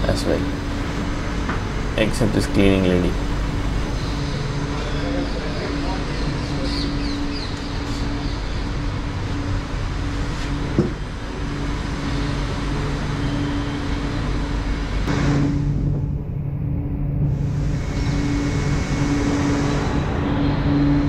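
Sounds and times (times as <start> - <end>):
train carriage hum: 0.0 - 21.0.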